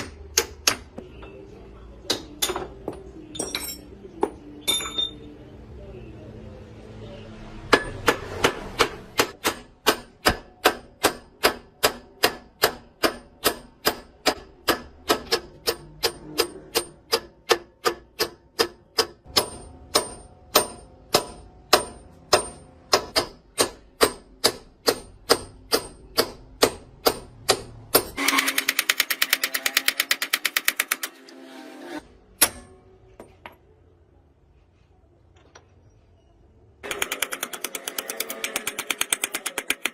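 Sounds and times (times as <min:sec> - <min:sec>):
hammer striking metal: 0:00.0 - 0:01.4, 0:02.1 - 0:05.3, 0:07.7 - 0:33.6, 0:36.8 - 0:39.9.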